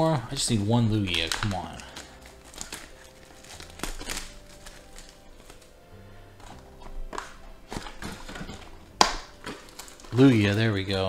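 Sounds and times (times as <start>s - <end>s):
plastic wrapper crinkling: 0.0s - 11.0s
soft background music: 0.0s - 11.0s.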